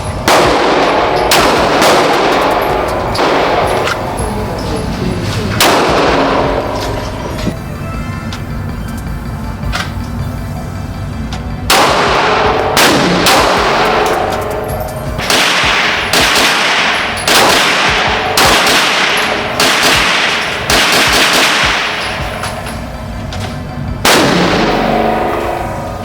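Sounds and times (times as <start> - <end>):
pistol shots with echo: 0.0 - 7.6, 11.7 - 26.0.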